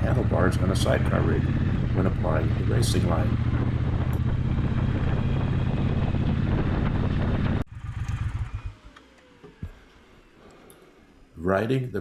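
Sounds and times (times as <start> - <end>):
motorcycle engine running: 0.0 - 9.9
road and wind noise: 0.0 - 10.4.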